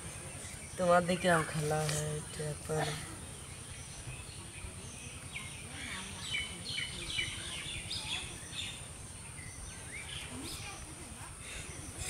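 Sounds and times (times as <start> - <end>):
birds chirping: 0.0 - 12.0
faint outdoor background: 0.0 - 12.0.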